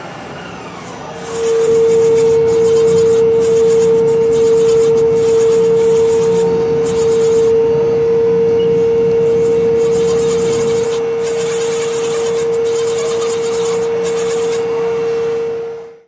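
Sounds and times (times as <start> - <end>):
milling machine running: 0.0 - 16.0.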